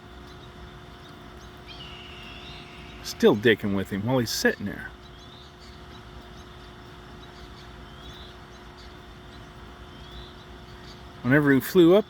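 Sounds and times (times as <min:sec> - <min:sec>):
faint steady hum: 0:00.0 - 0:12.0
low outdoor rumble: 0:00.0 - 0:12.0
small birds chirping: 0:00.0 - 0:12.0.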